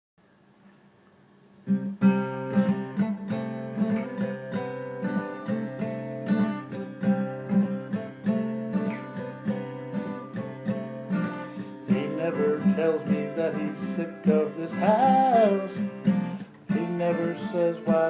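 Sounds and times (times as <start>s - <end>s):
acoustic guitar strummed chords: 1.6s - 18.0s.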